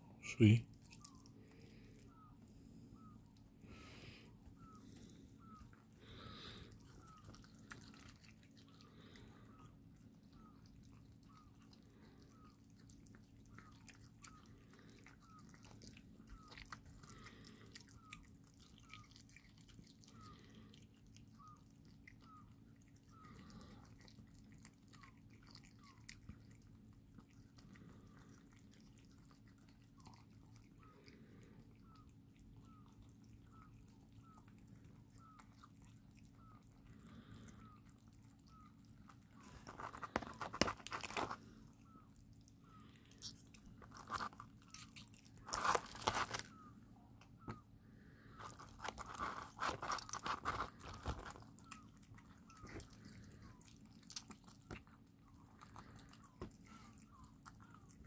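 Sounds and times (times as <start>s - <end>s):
kittens chewing and licking: 0.0s - 58.0s
low steady hum: 0.0s - 58.0s.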